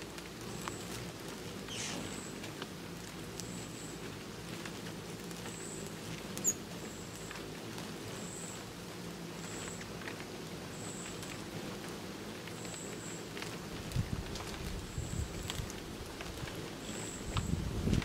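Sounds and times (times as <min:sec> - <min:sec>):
hummingbird wings humming: 0:00.0 - 0:18.0.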